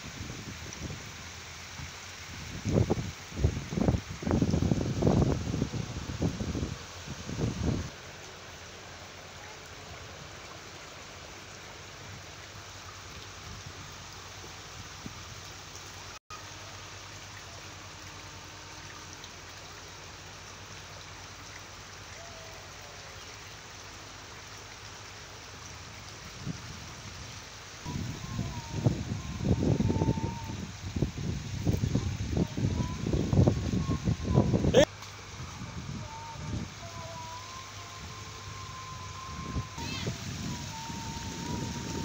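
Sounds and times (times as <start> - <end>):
stream flowing over stones: 0.0 - 42.0.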